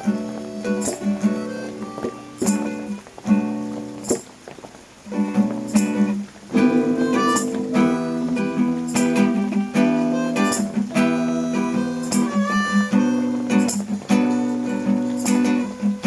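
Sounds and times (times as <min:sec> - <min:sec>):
acoustic guitar strumming chords: 0:00.0 - 0:04.2, 0:05.1 - 0:16.0.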